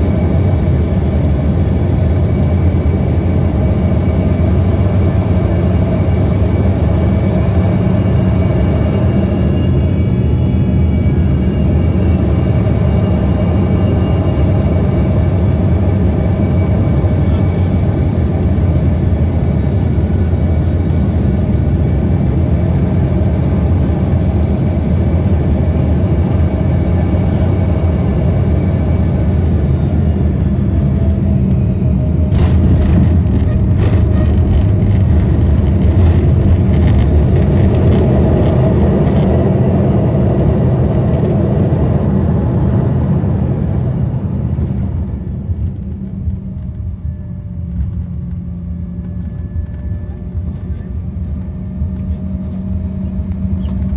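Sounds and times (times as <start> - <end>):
faint high whine: 0.0 - 38.9, 42.2 - 53.9
airliner engine and airflow rumble: 0.0 - 53.9.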